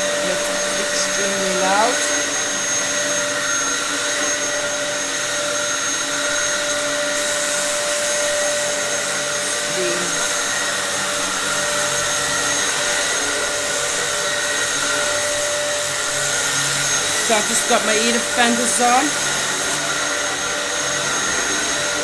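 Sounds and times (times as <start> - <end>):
vacuum cleaner high whine: 0.0 - 22.0.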